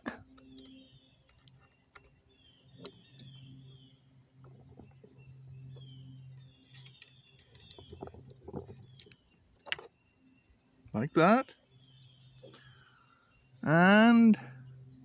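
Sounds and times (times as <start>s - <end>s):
faint birdsong chirps: 0.0s - 15.0s
low steady hum: 0.0s - 15.0s.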